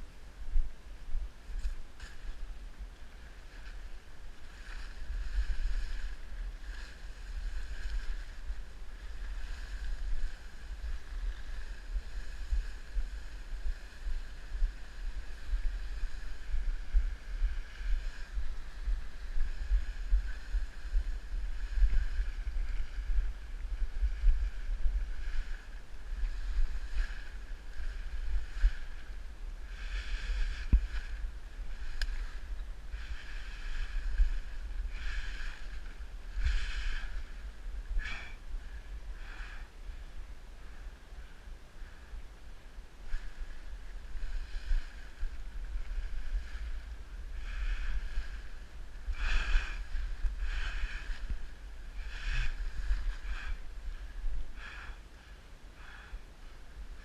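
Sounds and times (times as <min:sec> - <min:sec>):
faint rushing hiss: 0:00.0 - 0:57.0
wind buffeting microphone: 0:00.0 - 0:57.0.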